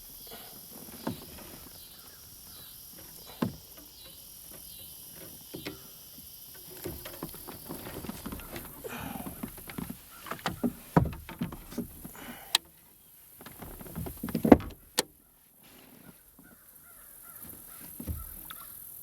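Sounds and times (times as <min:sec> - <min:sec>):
gear knocking in a kayak: 0:00.0 - 0:15.3, 0:17.2 - 0:19.0
insects chirping: 0:00.0 - 0:19.0.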